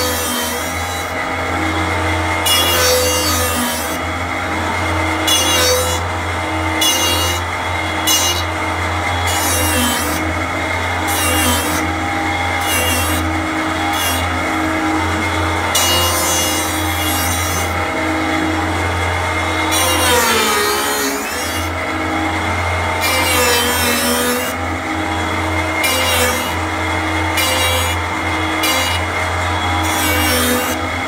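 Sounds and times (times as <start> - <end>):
lathe cutter shaving wood: 0.0 - 31.0
steady motor hum: 0.0 - 31.0.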